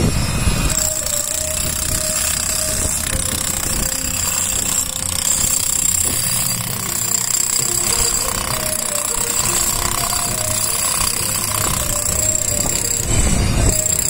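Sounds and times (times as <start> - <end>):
jackhammers chiselling concrete: 0.0 - 14.0.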